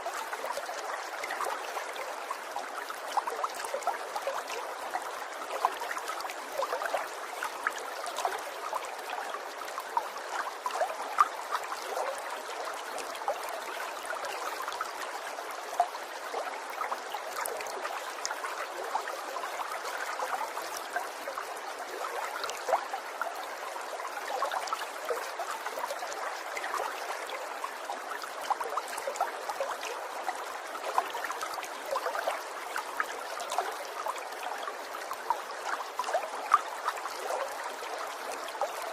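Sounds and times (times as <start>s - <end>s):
water trickling and burbling: 0.0s - 38.9s.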